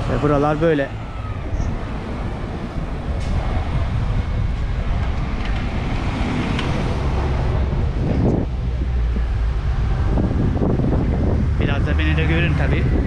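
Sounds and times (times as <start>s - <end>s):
street traffic: 0.0s - 13.0s
wind buffeting microphone: 0.0s - 13.0s.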